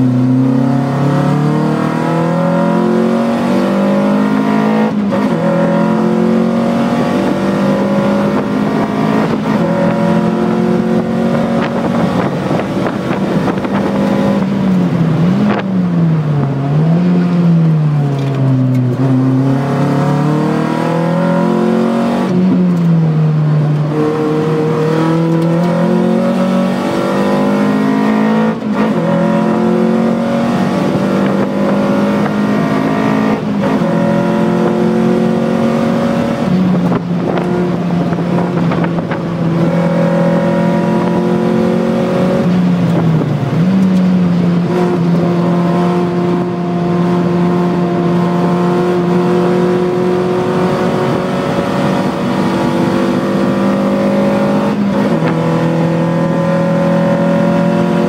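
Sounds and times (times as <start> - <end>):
car engine from inside cabin: 0.0 - 58.0.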